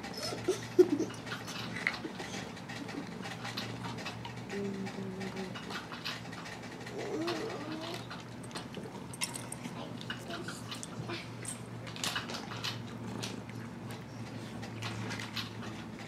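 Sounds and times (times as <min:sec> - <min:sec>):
steady low hum: 0:00.0 - 0:16.0
cat crunching dry treats: 0:01.2 - 0:16.0.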